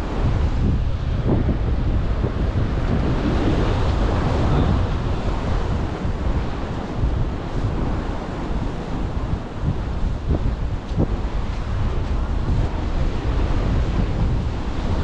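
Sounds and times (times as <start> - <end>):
sea waves washing against concrete: 0.0 - 15.0
wind buffeting the microphone: 0.0 - 15.0.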